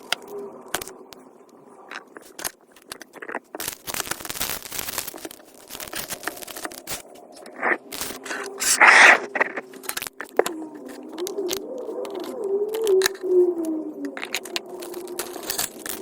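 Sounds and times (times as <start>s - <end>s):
packing material crinkling: 0.0s - 1.0s, 1.9s - 16.0s.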